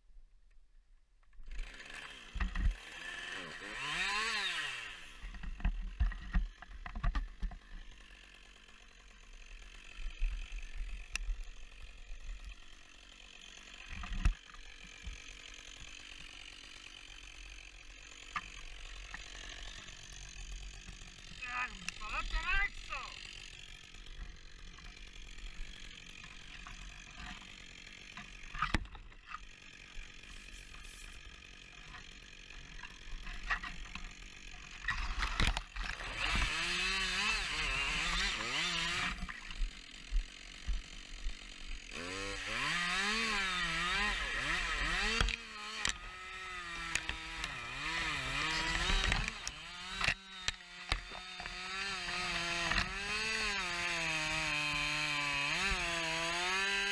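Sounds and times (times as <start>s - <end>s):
chainsaw cutting wood: 1.4s - 56.9s.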